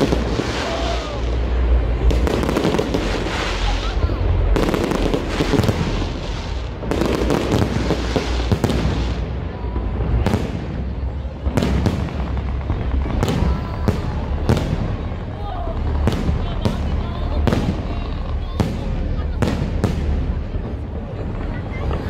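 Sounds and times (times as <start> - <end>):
fireworks bangs: 0.0 - 22.0
fireworks crackle: 0.0 - 22.0
steady low rumble: 0.0 - 22.0.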